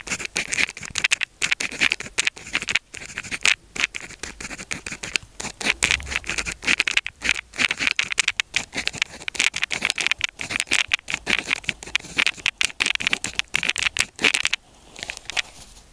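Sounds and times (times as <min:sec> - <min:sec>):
pen scratching on paper: 0:00.0 - 0:14.5.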